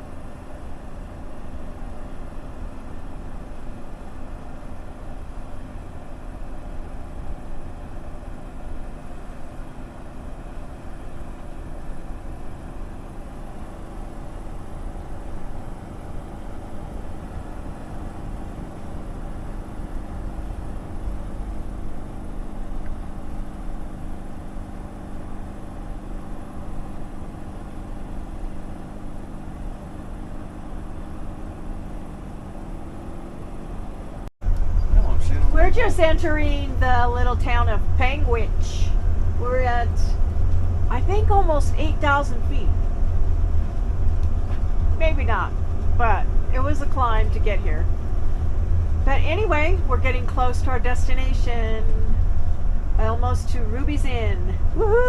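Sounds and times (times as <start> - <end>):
road rumble: 0.0 - 55.0
vehicle engine hum: 0.0 - 55.0.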